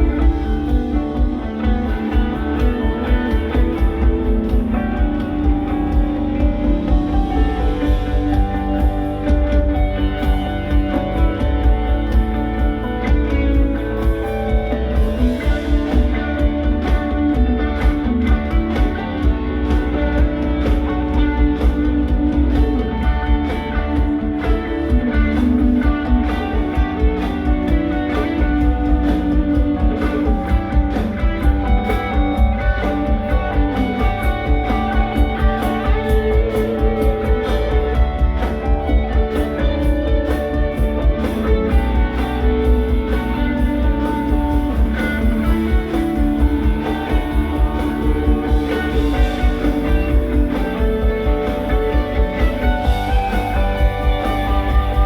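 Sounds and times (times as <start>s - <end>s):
bass: 0.0s - 55.0s
guitar lines: 0.0s - 55.0s
steady drum beat: 0.0s - 55.0s.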